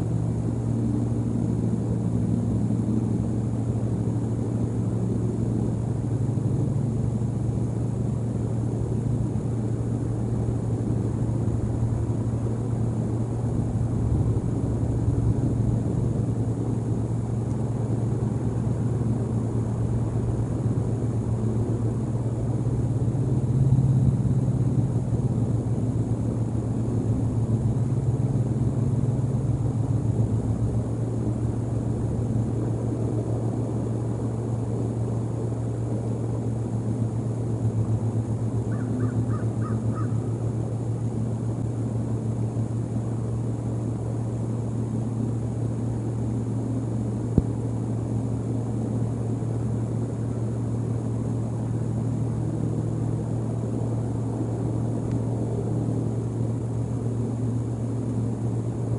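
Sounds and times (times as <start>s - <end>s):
steady low rumble: 0.0s - 58.9s.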